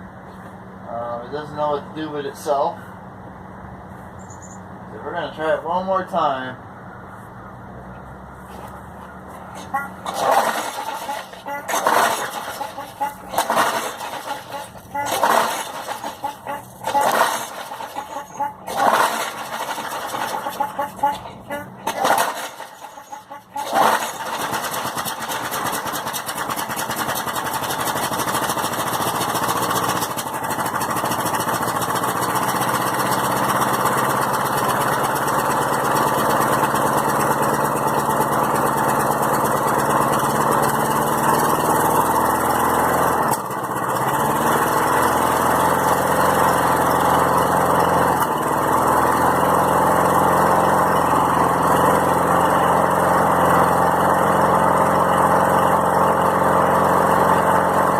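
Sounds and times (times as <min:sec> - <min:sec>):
lawn mower engine running unevenly: 0:08.4 - 0:57.9.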